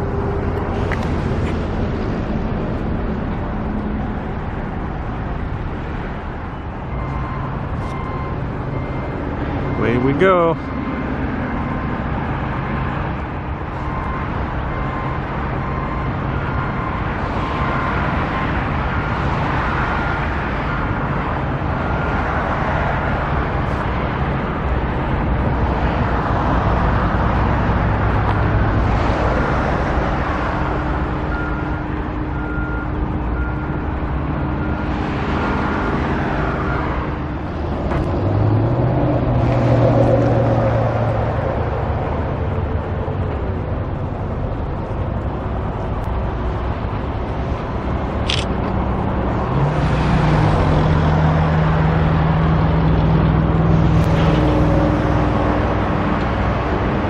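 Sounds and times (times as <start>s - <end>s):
engine and traffic noise: 0.0s - 57.0s.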